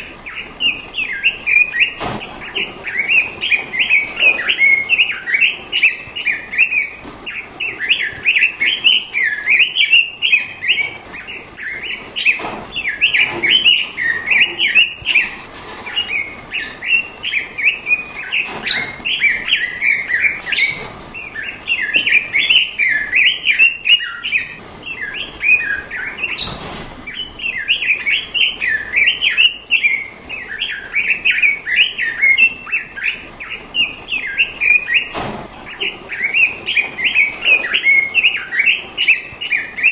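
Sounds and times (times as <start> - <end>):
bird warbling chirps: 0.0 - 39.9.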